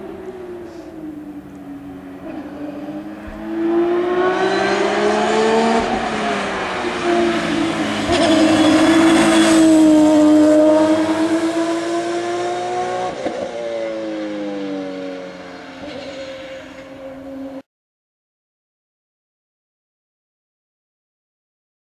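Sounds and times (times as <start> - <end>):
race car engine at speed: 0.0 - 17.6.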